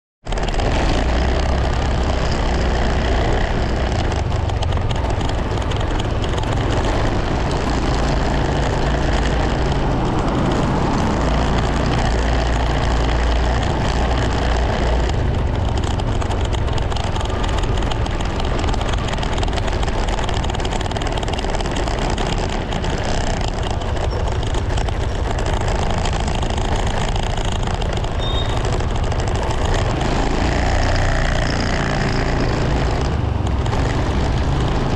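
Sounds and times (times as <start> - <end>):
road and wind noise: 0.2 - 34.9
vehicle engine rumble: 0.2 - 34.9.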